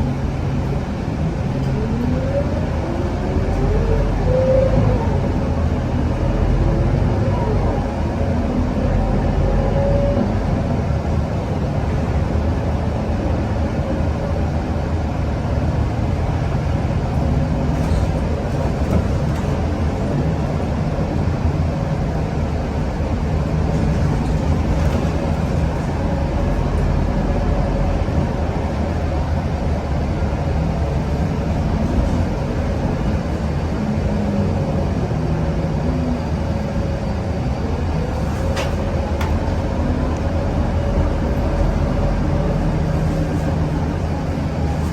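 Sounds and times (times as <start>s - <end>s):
bus engine and road rumble: 0.0s - 44.9s.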